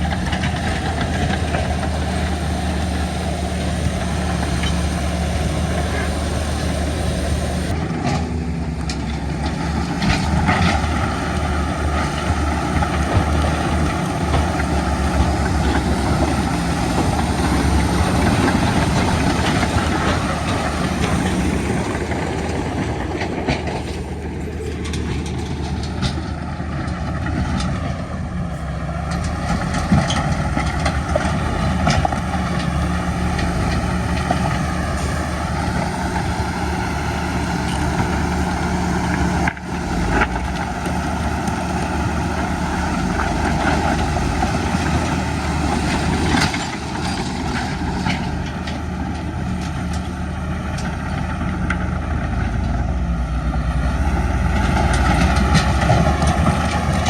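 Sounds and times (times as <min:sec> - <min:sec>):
metal clanks and rattles: 0:00.0 - 0:52.8
heavy diesel engines running: 0:00.0 - 0:57.0.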